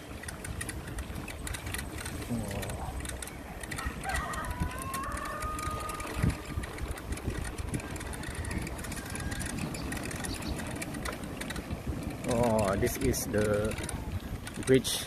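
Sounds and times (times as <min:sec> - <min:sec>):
bicycle freewheel ticking: 0:00.0 - 0:15.0.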